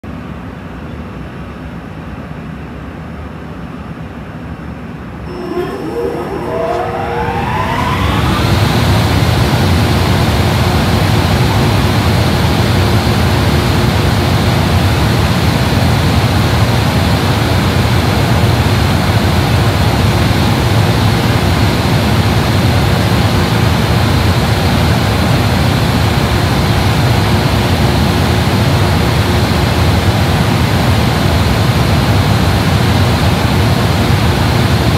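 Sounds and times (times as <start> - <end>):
locomotive cooling blowers whine: 4.9 - 34.9
low hum: 5.2 - 34.9.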